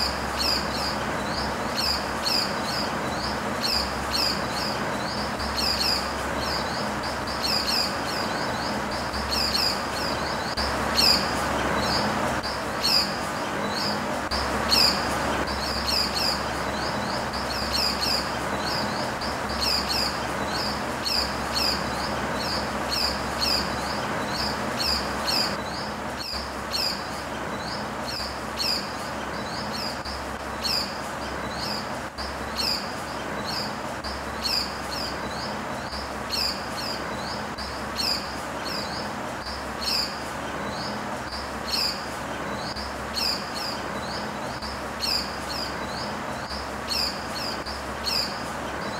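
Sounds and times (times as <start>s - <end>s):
bird chirping: 0.0s - 48.9s
steady background hiss: 0.0s - 48.9s.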